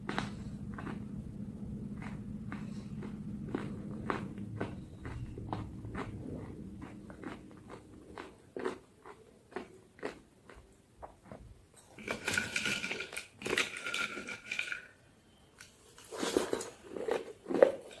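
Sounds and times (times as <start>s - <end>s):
crunching and chewing: 0.0s - 1.2s, 1.8s - 14.7s, 15.6s - 18.0s.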